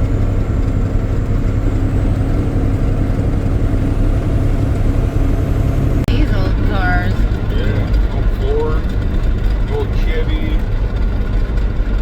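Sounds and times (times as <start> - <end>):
vehicle driving on highway: 0.0 - 12.0.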